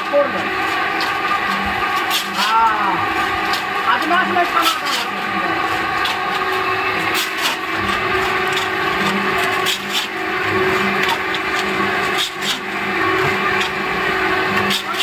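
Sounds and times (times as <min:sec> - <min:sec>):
blades scraping wet mix: 0:00.0 - 0:15.0
mixer motor humming: 0:00.0 - 0:15.0.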